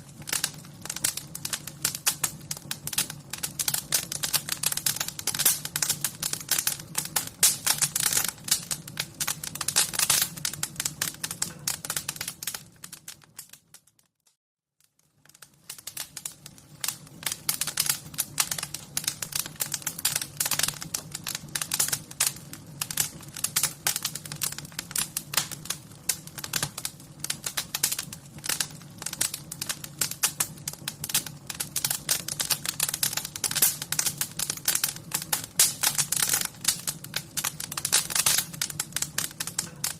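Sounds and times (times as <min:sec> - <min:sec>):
wood fire crackling: 0:00.0 - 0:14.0, 0:14.8 - 0:39.9.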